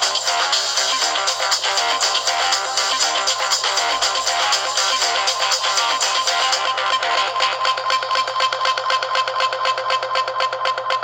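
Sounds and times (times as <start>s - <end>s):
electronic ringtone tune: 0.0s - 11.0s.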